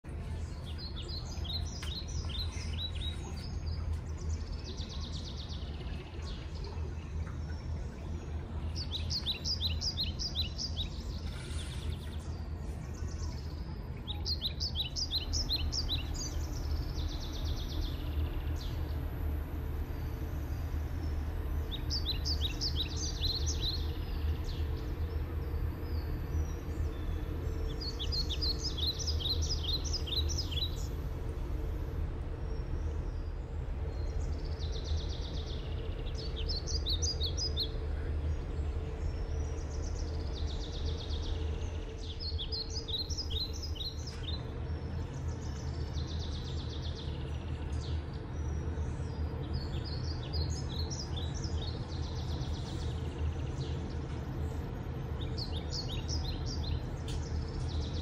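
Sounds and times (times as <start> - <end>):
low outdoor rumble: 0.0 - 58.0
small bird chirping: 0.6 - 54.4.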